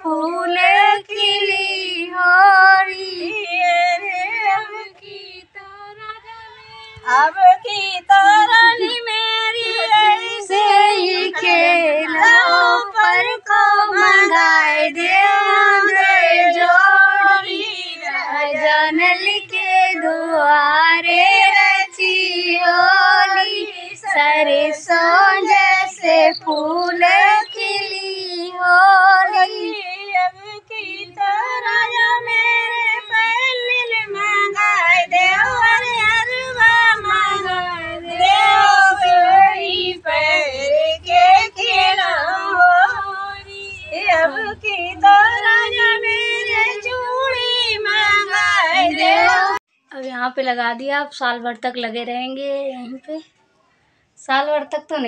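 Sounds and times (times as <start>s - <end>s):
women singing folk song: 0.0s - 49.6s.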